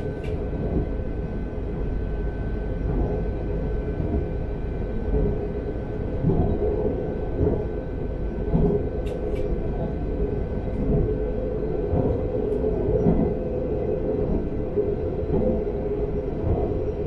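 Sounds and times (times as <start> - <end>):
thin steady whine: 0.0 - 17.0
train wheels rumbling on rails: 0.0 - 17.0.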